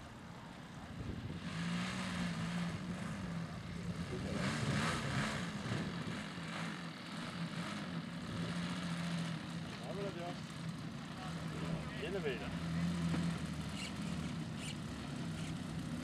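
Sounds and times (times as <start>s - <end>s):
model airplane engine humming: 0.0s - 16.0s.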